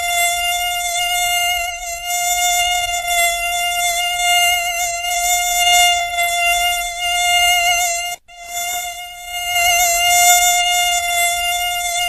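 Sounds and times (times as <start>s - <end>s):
mosquito wings whining: 0.0s - 12.0s.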